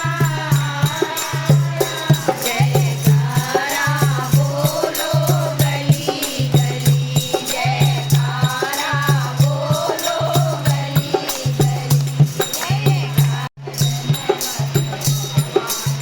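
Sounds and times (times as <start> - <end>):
devotional singing in chorus: 0.0 - 16.0
jingling hand percussion: 0.0 - 16.0.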